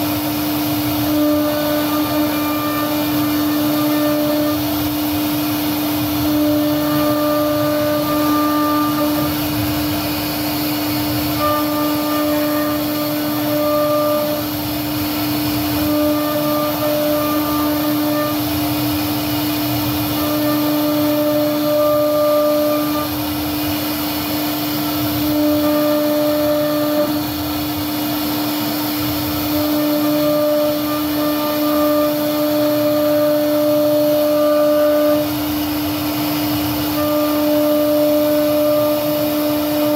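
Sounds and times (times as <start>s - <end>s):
high tone of bit carving wood: 0.0s - 39.9s
router spindle humming: 0.0s - 39.9s.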